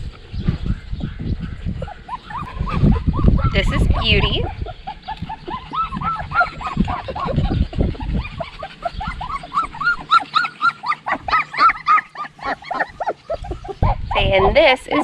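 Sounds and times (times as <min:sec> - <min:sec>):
wind rumble on microphone: 0:00.0 - 0:10.2, 0:12.4 - 0:15.0
puppies yipping and barking: 0:00.7 - 0:15.0.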